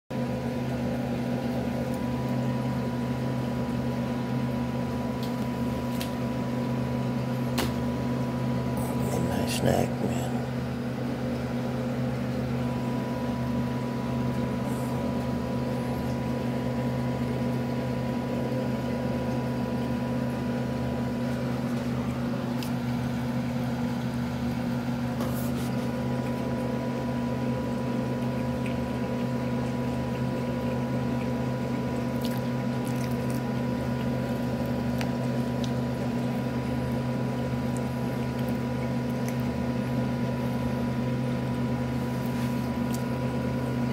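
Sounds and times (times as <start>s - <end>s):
appliance motor hum: 0.1s - 43.9s.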